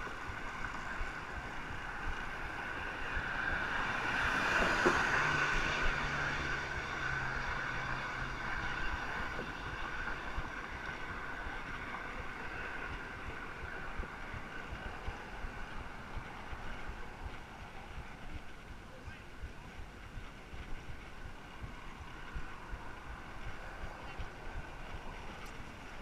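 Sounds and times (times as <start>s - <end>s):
bicycle road noise: 0.0s - 26.0s
wind rushing over microphone: 0.0s - 26.0s.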